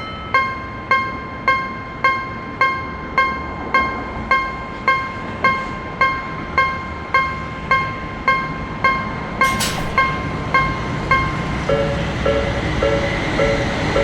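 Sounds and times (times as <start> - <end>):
level-crossing warning bell: 0.0 - 14.0
low rumble of train: 0.0 - 14.0.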